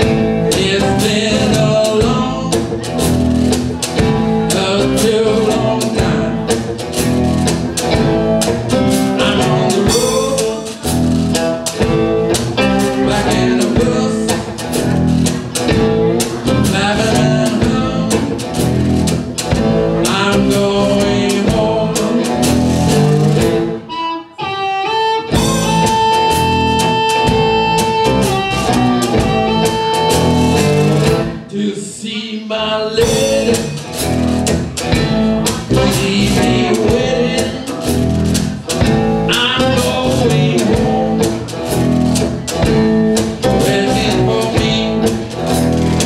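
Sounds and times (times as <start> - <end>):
cigar box guitar: 0.0 - 46.0
drums: 0.0 - 46.0.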